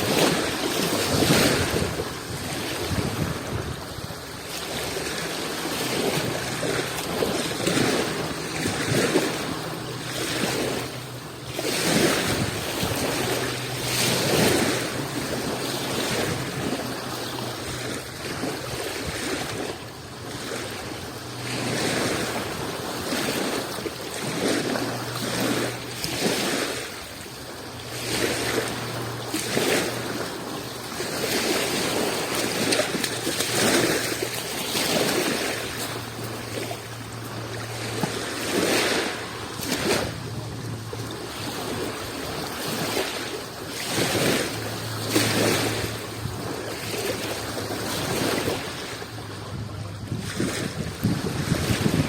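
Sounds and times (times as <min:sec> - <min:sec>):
small waves washing on shore: 0:00.0 - 0:52.0.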